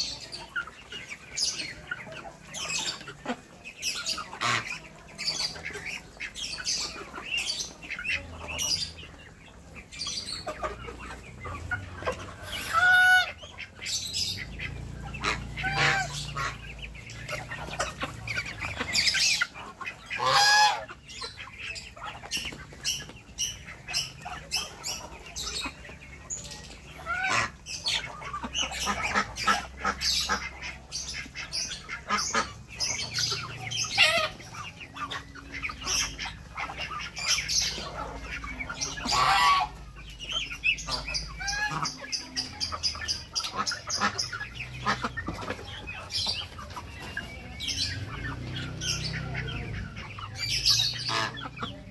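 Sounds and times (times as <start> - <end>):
ducks and chickens clucking: 0.0 - 51.9.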